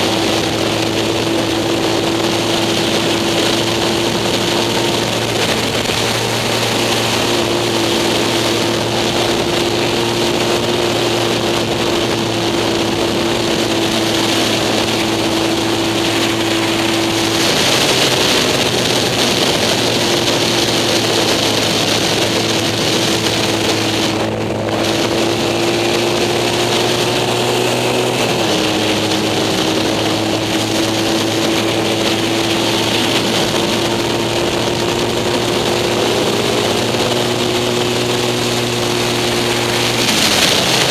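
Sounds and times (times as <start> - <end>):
engine running at high revs: 0.0 - 40.9
wind noise: 0.0 - 40.9.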